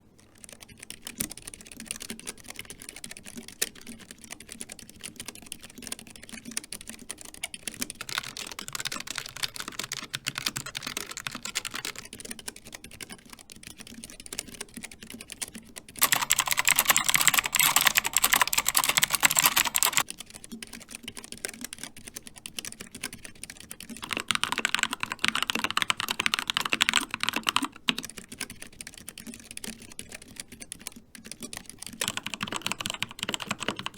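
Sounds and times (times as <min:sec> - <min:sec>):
typing on mechanical keyboards: 0:00.1 - 0:33.9.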